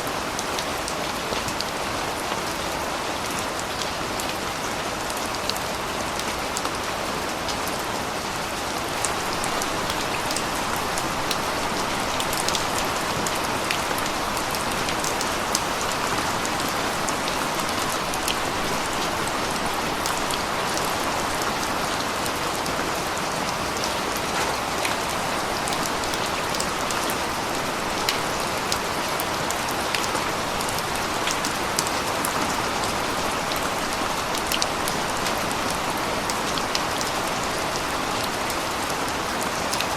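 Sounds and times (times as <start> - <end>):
rain drops on a hard surface: 0.0 - 39.9.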